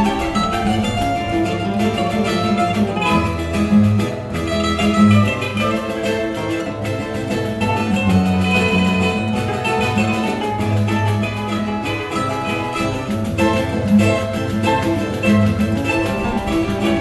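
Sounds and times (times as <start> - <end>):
plucked string melody: 0.0 - 17.0.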